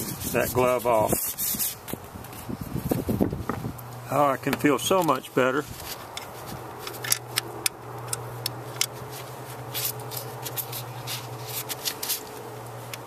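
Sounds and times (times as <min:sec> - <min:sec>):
low hum: 0:02.0 - 0:13.0.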